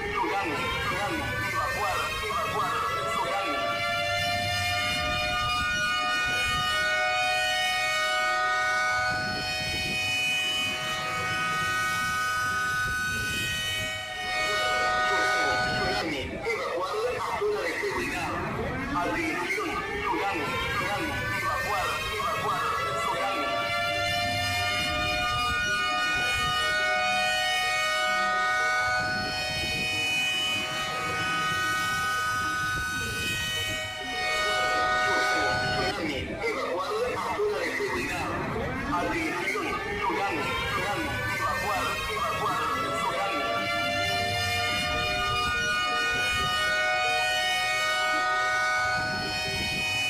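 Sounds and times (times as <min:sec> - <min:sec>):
warning siren steady tone: 0:00.0 - 0:50.0.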